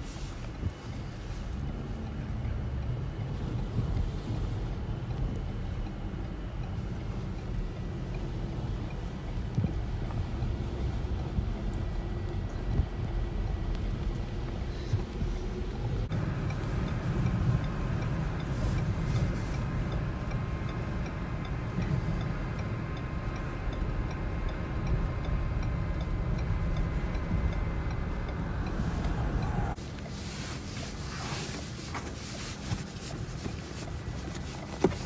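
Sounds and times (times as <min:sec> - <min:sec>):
turn signal ticking: 0:00.0 - 0:30.2, 0:31.5 - 0:35.0
wind and road noise rumble: 0:00.0 - 0:35.0.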